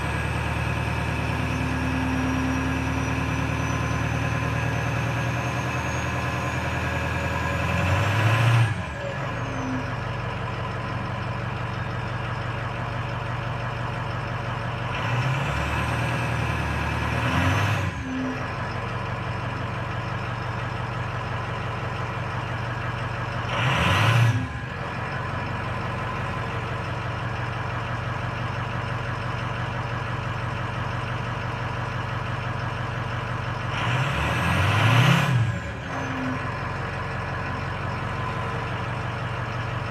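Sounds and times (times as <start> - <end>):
diesel engine idling and revving: 0.0 - 39.9.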